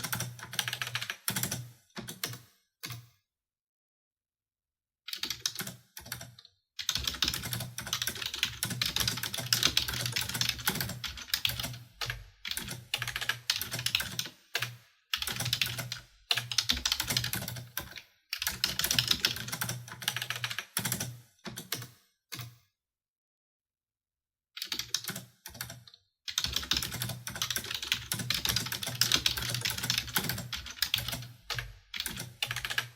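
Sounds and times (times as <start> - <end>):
computer keyboard typing: 0.0 - 3.0, 5.1 - 22.5, 24.6 - 32.9.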